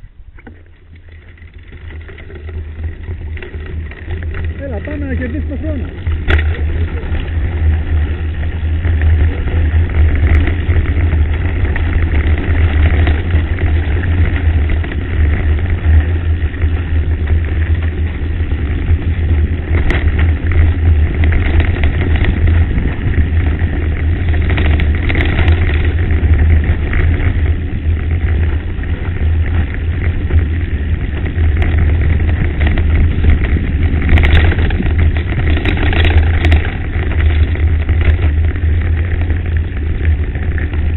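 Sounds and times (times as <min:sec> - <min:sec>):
bike knocking over bumps: 0:00.3 - 0:40.9
tyres crunching over gravel: 0:00.4 - 0:40.9
wind buffeting microphone: 0:02.4 - 0:40.9.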